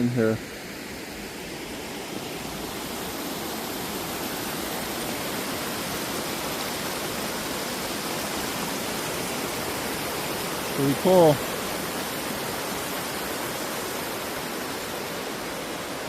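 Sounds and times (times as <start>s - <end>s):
water rushing over dam: 0.0s - 16.0s.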